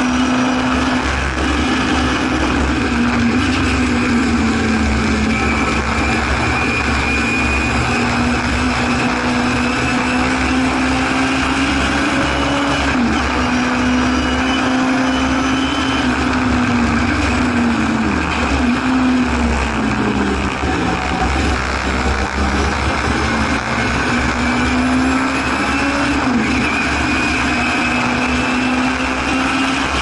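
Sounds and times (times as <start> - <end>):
racing car engine running hard: 0.0 - 30.0
road and wind noise: 0.0 - 30.0.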